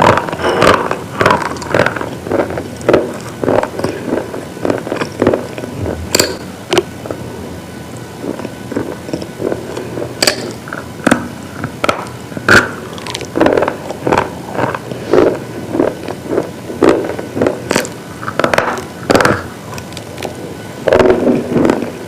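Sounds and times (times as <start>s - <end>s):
brittle pieces crunching: 0.0s - 6.9s, 8.3s - 21.9s.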